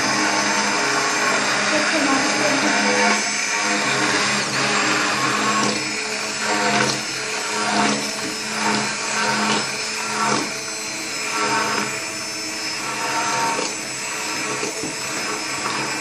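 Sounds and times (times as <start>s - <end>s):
immersion blender motor hum: 0.0s - 16.0s.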